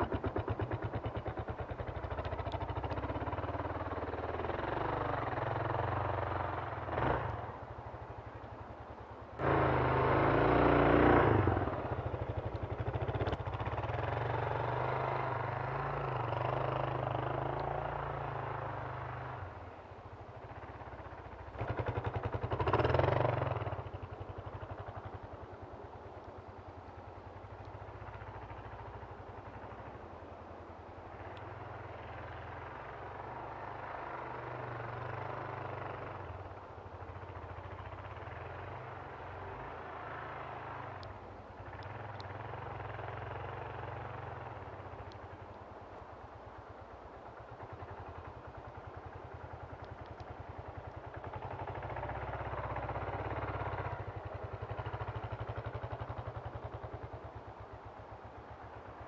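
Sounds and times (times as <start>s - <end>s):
distant motorcycle engine revving: 0.0s - 7.7s, 9.4s - 25.4s, 31.1s - 59.0s.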